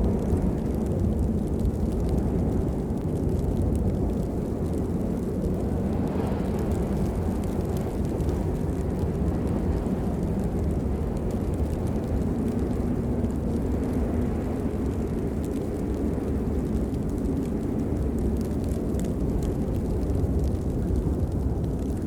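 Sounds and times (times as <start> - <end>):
faint raindrop ticks: 0.0 - 22.0
steady rain: 0.0 - 22.0.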